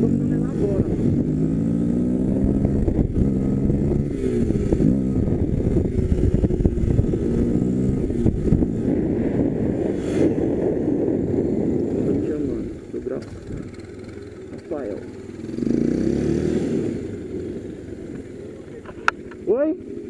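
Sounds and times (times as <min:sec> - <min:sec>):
wind rumble on microphone: 0:00.0 - 0:18.3
motorcycle engine revving: 0:00.0 - 0:20.0.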